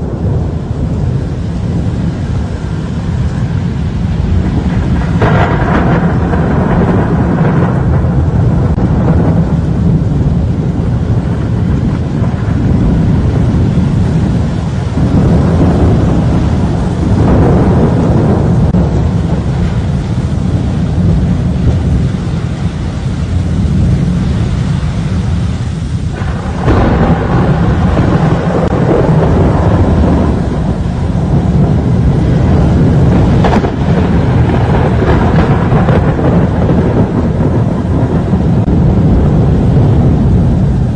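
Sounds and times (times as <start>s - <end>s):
rain: 0.0s - 40.9s
wind: 0.0s - 40.9s.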